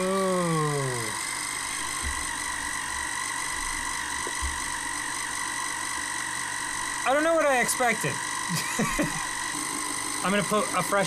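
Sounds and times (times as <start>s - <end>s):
small electric motor buzzing: 0.0s - 11.0s.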